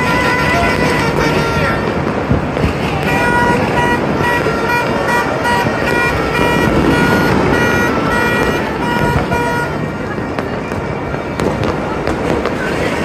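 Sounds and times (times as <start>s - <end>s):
distant fireworks crackling and popping: 0.0s - 13.0s
horns tooting: 0.0s - 13.0s.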